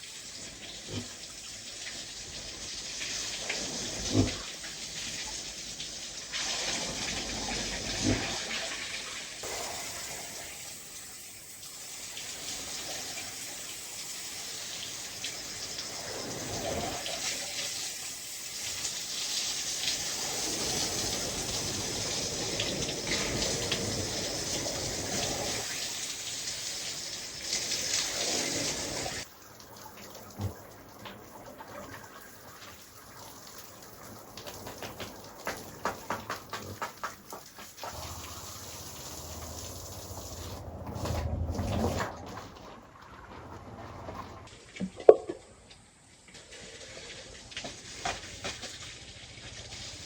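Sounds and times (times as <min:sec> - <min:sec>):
water splashing and running: 0:00.0 - 0:50.0.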